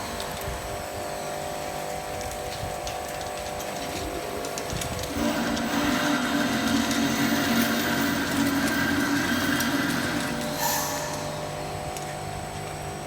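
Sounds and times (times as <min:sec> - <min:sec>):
high whine over hum: 0:00.0 - 0:13.0
washing machine humming: 0:00.0 - 0:13.0.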